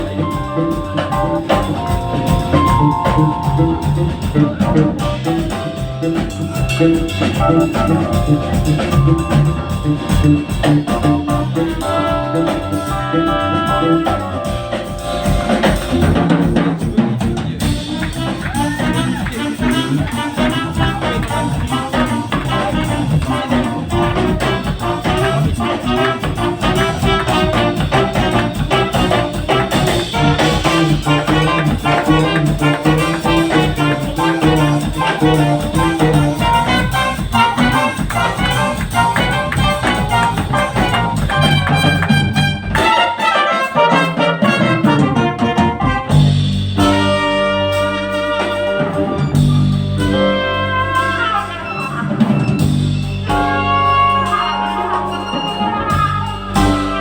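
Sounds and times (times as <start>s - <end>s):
bass: 0.0s - 57.0s
jazz band with brass: 0.0s - 57.0s
trumpet: 0.0s - 57.0s.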